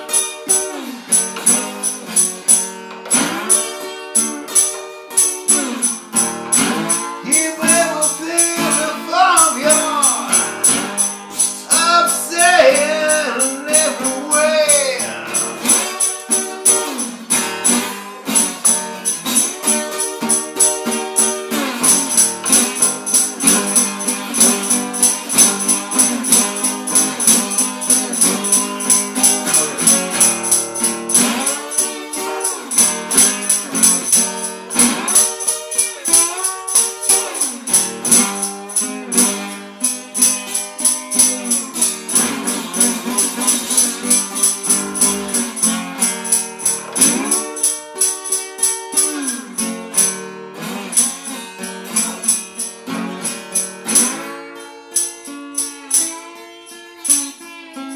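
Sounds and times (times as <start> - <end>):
acoustic guitar playing slow blues: 0.0 - 57.9
shaken tambourine beat: 0.0 - 57.9.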